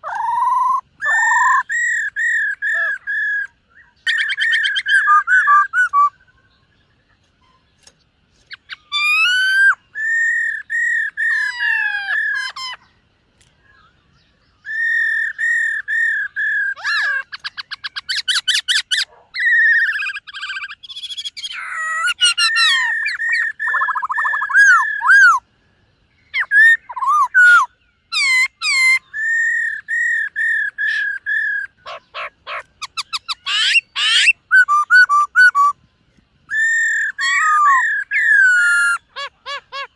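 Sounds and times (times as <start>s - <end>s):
bird singing whistles and trills: 0.0s - 7.9s, 8.5s - 13.0s, 13.6s - 39.9s.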